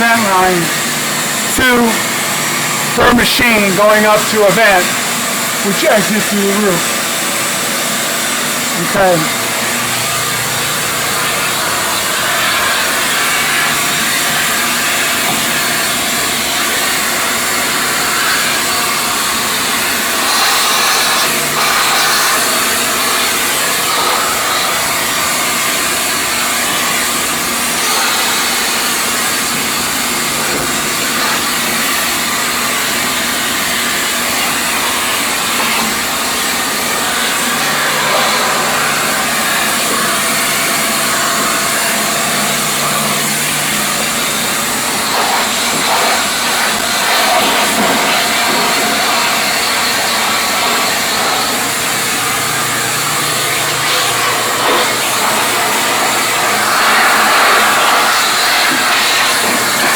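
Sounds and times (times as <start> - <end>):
fan machinery motor hum: 0.0 - 59.9.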